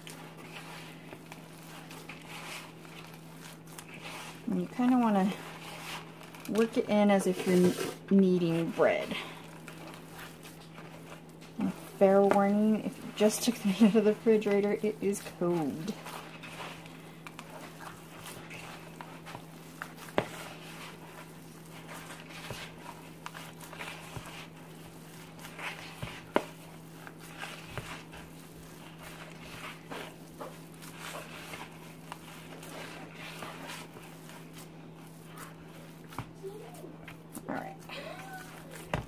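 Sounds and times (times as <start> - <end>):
hands squelching raw meat mixture: 0.0 - 39.0
steady low hum: 0.0 - 39.0.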